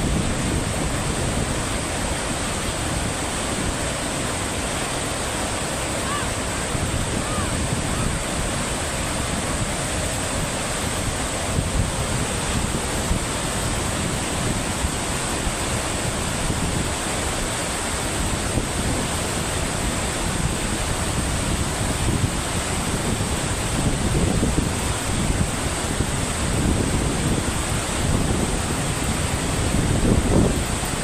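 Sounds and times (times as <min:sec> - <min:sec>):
turbulent water rushing: 0:00.0 - 0:31.0
wind rumbling on microphone: 0:00.0 - 0:31.0.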